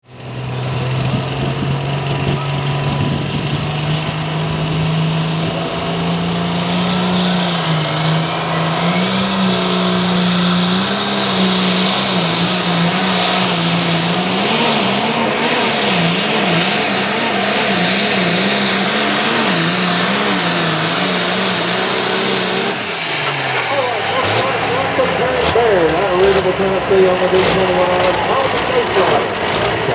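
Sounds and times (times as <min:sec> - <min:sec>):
diesel tractor engine revving high: 0:00.0 - 0:29.9.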